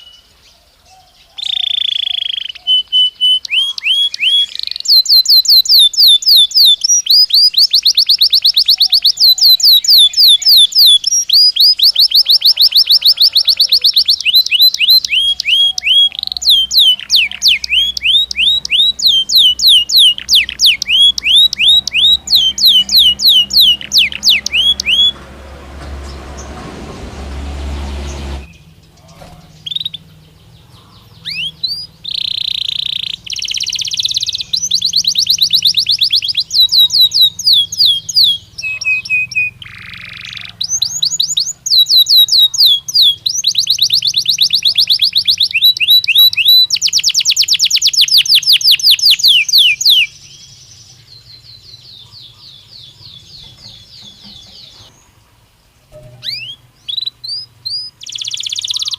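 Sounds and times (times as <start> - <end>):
canary singing trills: 0.0 - 26.6, 27.3 - 58.9.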